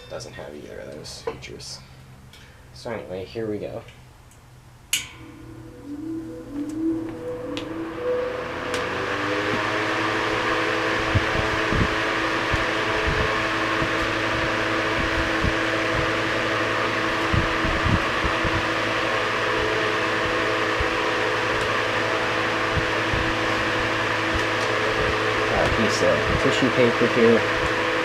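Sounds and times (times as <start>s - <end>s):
electric fan motor hum: 0.4s - 28.0s
rush of air from fan: 5.0s - 28.0s.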